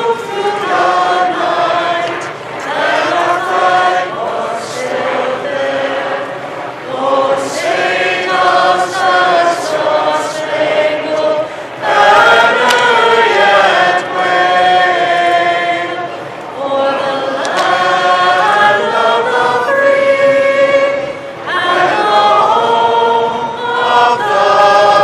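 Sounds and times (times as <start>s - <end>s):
woman singing an anthem: 0.0s - 6.0s, 6.9s - 25.0s.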